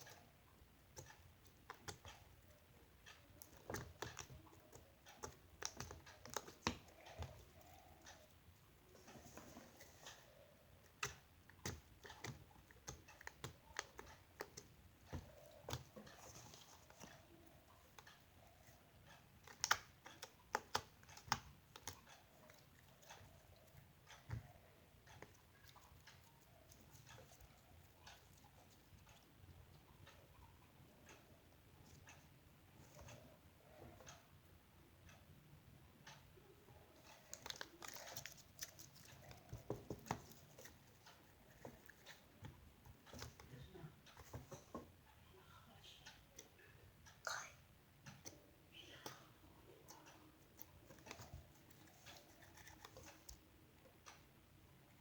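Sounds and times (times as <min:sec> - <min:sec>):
faint clicks and taps: 0:00.0 - 0:55.0.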